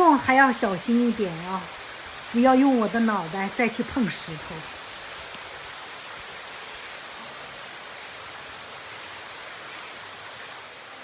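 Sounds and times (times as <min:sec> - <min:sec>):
running water in cave: 0:00.0 - 0:11.0.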